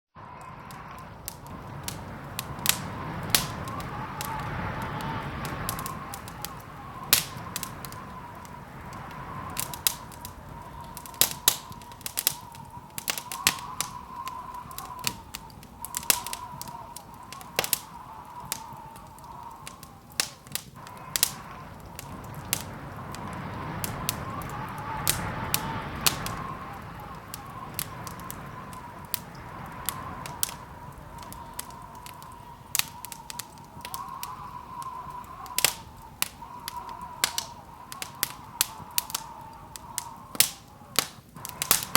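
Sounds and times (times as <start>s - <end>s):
low rumble of flames: 0.1s - 41.9s
wood fire crackling and popping: 0.2s - 41.9s.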